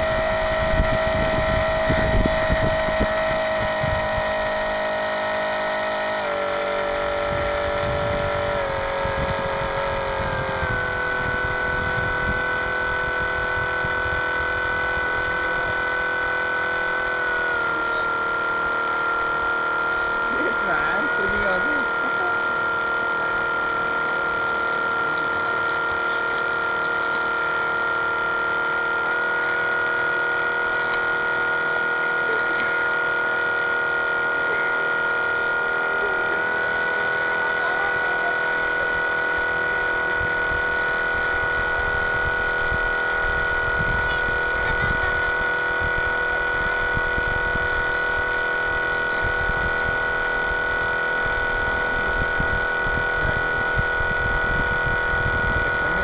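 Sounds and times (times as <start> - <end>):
model boat motor whining: 0.0 - 56.0.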